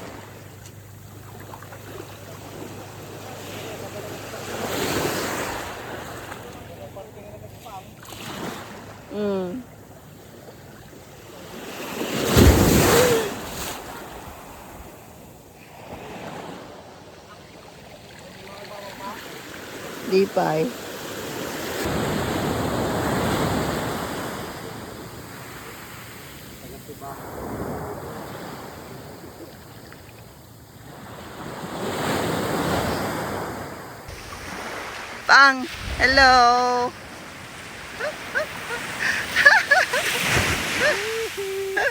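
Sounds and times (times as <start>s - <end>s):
ocean waves crashing: 0.0s - 9.2s, 10.2s - 17.3s, 18.2s - 29.4s, 30.9s - 41.9s.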